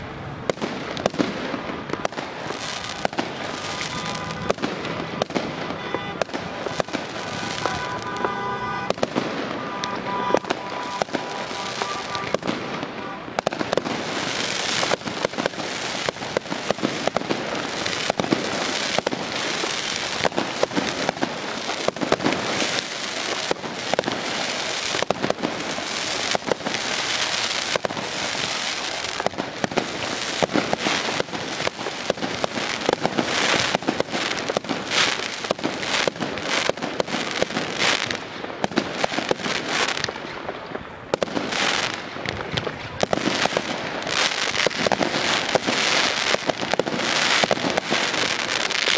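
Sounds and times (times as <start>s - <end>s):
fireworks banging and crackling: 0.0s - 48.9s.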